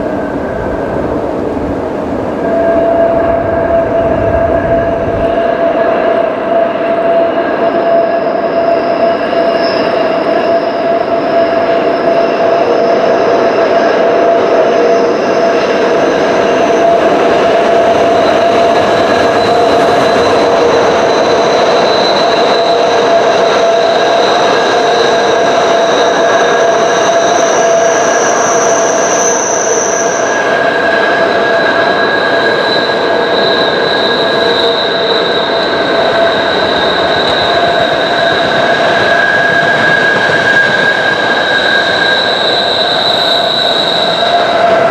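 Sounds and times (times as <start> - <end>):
train wheels squealing: 0.0 - 44.9.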